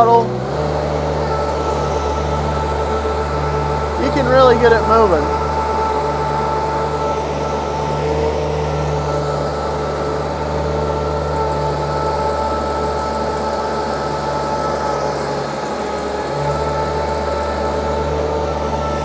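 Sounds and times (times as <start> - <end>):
diesel engine droning: 0.0 - 19.0
thin engine whine: 0.0 - 19.0.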